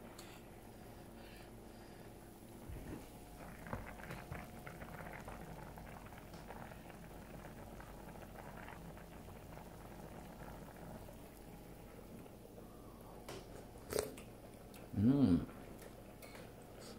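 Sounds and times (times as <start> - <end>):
soup boiling: 2.8 - 16.9.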